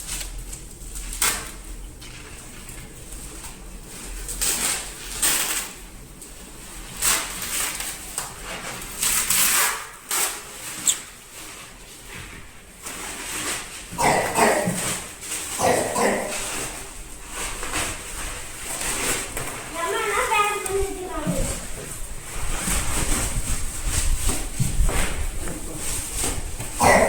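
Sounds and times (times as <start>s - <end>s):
packaging rustling and scraping: 0.0s - 27.0s.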